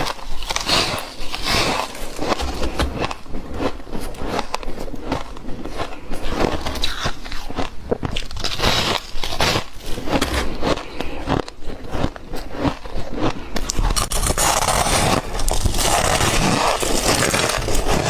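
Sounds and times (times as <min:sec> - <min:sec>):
crunching bites into ice: 0:00.0 - 0:18.0.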